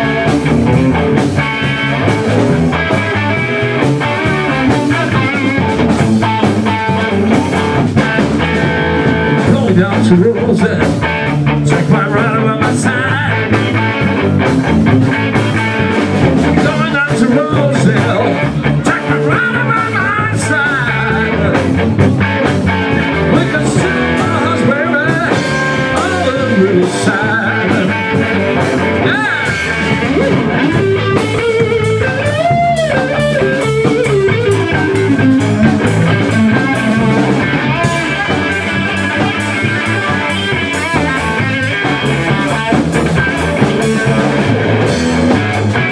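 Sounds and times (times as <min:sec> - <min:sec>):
guitar lead with bent notes: 0:00.0 - 0:45.9
live rock band playing: 0:00.0 - 0:45.9.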